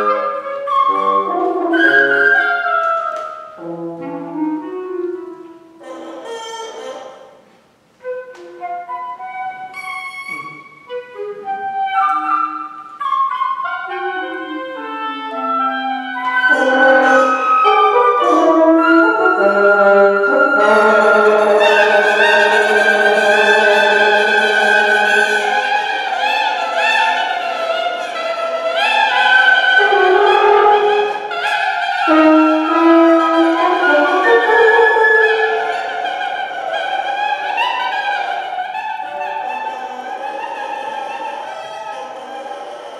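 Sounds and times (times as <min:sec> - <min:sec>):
woodwind quintet playing: 0:00.0 - 0:07.4, 0:08.0 - 0:42.9.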